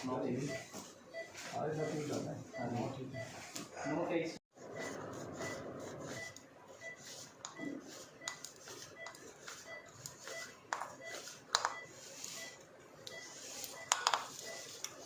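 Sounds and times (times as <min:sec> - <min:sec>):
steady repeating beep: 0:00.0 - 0:14.8.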